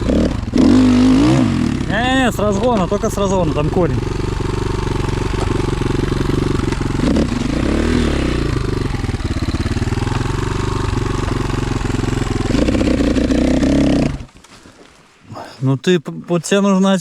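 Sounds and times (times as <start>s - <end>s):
motorcycle engine revving: 0.0s - 14.4s.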